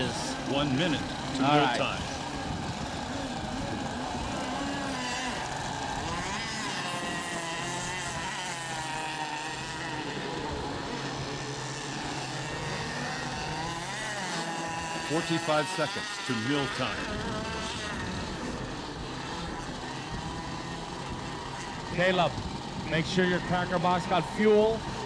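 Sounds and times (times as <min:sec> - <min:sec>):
model boat engines droning: 0:00.0 - 0:25.0.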